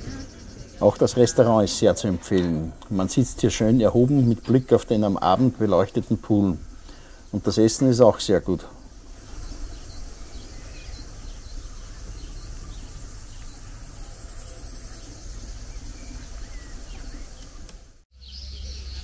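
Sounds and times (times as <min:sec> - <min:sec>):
insects buzzing: 0:00.0 - 0:19.0
wind rumble: 0:02.7 - 0:18.0.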